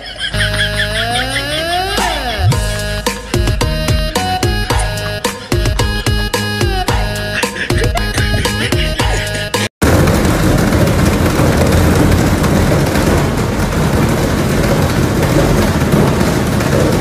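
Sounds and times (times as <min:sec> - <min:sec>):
washing machine rumbling: 0:00.0 - 0:17.0.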